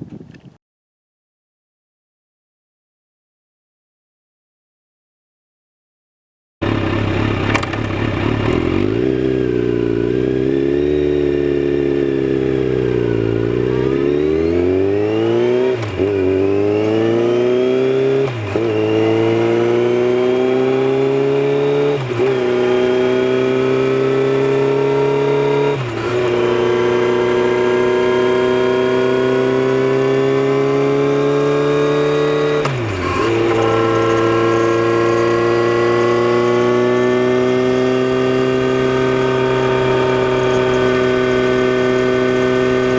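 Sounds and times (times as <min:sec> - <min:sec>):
motorcycle engine accelerating: 0:06.6 - 0:42.9.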